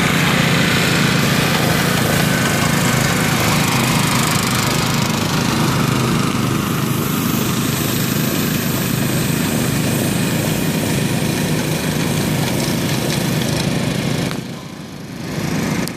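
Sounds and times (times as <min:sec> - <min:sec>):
small gasoline engines running: 0:00.0 - 0:15.9.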